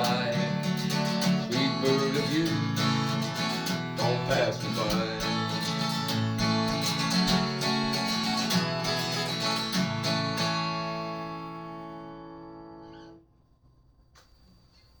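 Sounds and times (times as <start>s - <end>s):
acoustic guitar strumming: 0.0s - 13.2s.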